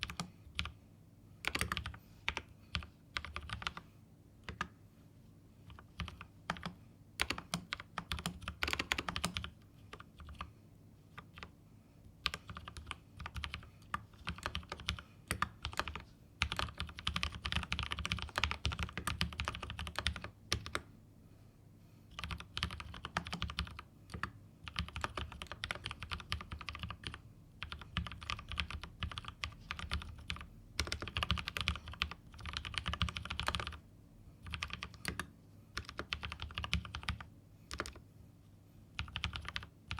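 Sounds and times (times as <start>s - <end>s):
mechanical keyboard typing: 0.0s - 0.8s, 1.4s - 3.8s, 4.4s - 4.7s, 5.7s - 10.5s, 12.2s - 20.9s, 22.2s - 33.8s, 34.4s - 38.0s, 39.0s - 39.9s.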